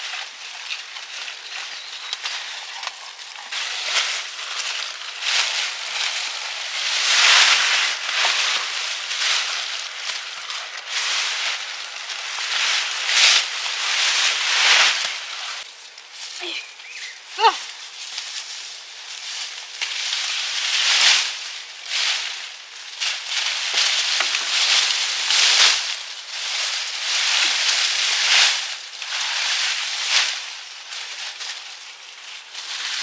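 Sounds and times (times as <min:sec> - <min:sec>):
rustling and crackling: 0:00.0 - 0:33.0.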